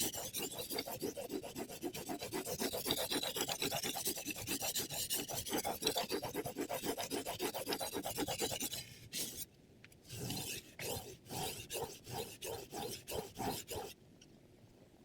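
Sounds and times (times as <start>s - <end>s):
knife rasping on sharpening plate: 0.0s - 9.4s, 10.1s - 13.9s.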